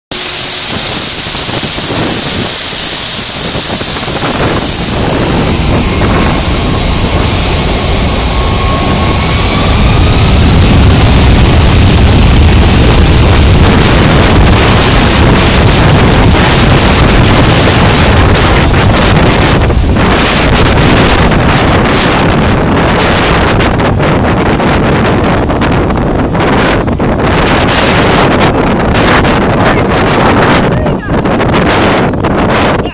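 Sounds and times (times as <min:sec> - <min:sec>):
jet blast buffeting microphone: 0:00.1 - 0:32.9
jet engines spooling up: 0:00.1 - 0:32.9.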